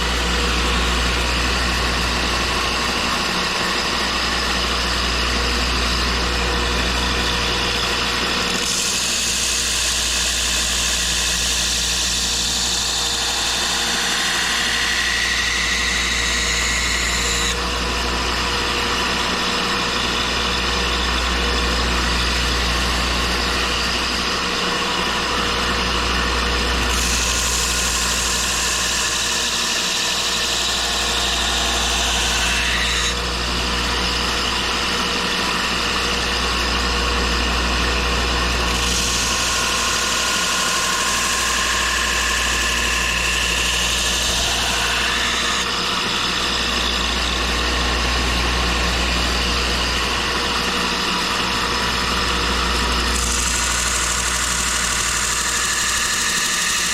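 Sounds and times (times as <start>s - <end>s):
belt grinder motor running: 0.0s - 56.9s.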